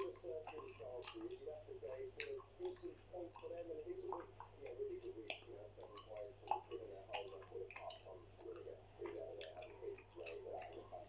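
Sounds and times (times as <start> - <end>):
gum chewing: 0.0 - 11.0
tv football commentary: 0.0 - 11.0.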